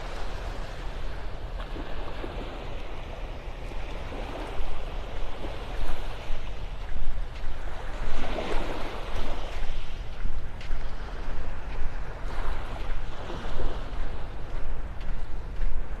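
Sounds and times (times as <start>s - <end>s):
ocean surf washing on beach: 0.0s - 16.0s
wind rumbling on microphone: 0.0s - 16.0s.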